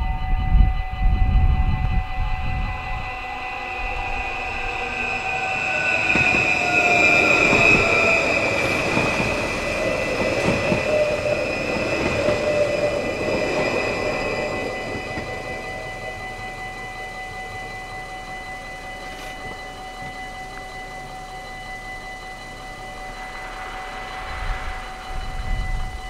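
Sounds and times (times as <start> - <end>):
high train whine: 0.0 - 26.0
train wheels on rails: 0.0 - 26.0.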